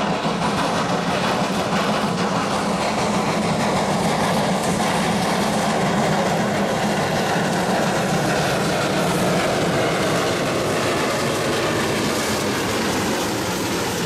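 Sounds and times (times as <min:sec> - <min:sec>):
steam hissing: 0:00.0 - 0:14.0
steam locomotive working hard: 0:00.0 - 0:14.0.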